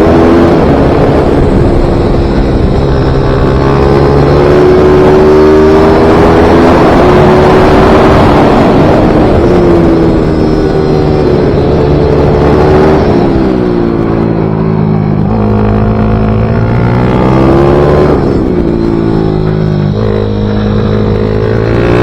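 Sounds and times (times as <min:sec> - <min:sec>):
minibike engine revving high: 0:00.0 - 0:22.0.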